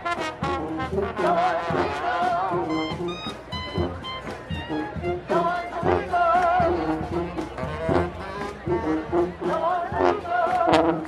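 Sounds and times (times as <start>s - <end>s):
brass marching band playing: 0.0s - 11.0s.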